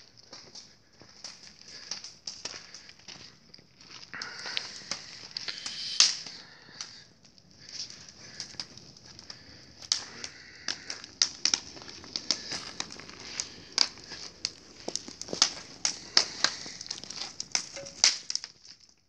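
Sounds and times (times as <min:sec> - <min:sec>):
fire crackling and popping: 0:00.0 - 0:19.0
fire hissing: 0:00.5 - 0:19.0.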